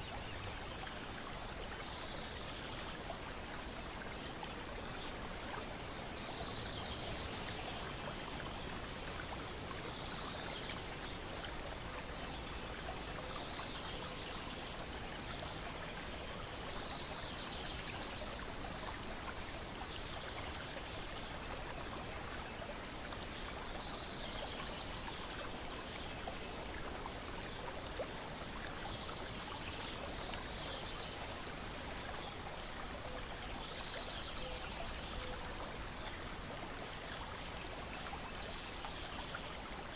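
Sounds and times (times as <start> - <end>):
soft water splashes: 0.0 - 39.9.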